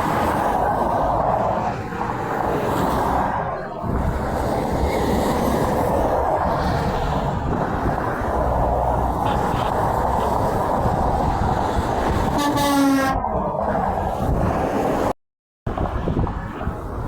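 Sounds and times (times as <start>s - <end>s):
highway traffic rushing: 0.0s - 17.0s
trucks passing: 0.0s - 17.0s.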